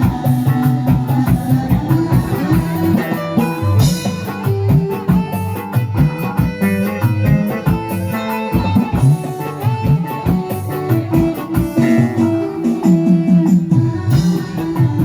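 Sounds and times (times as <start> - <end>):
bass line: 0.0 - 15.0
guitar: 0.0 - 15.0
steady drum beat: 0.0 - 15.0.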